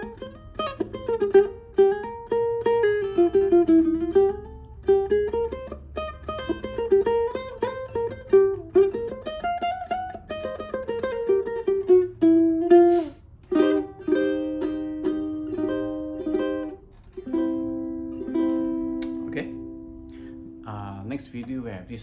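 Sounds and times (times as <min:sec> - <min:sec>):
ukulele plucked melody: 0:00.0 - 0:21.5
ukulele strummed chords: 0:00.0 - 0:21.8.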